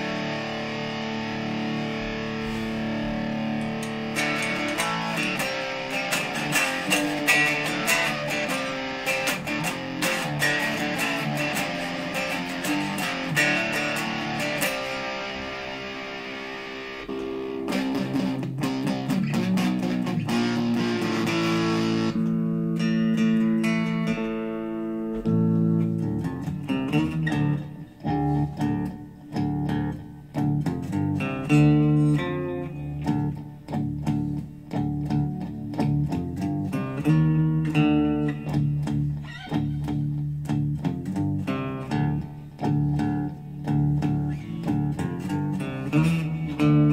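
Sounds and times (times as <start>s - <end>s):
electric guitar chords: 0.0s - 46.9s.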